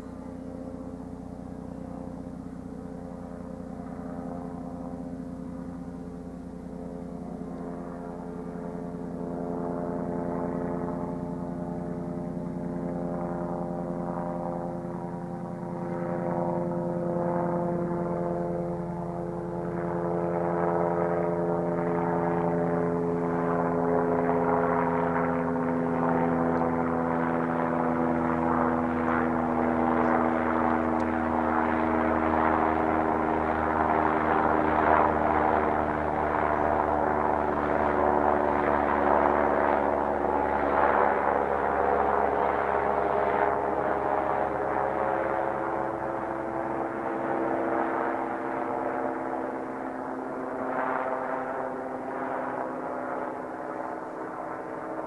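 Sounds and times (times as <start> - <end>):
helicopter rotor and engine drone: 0.0 - 55.0.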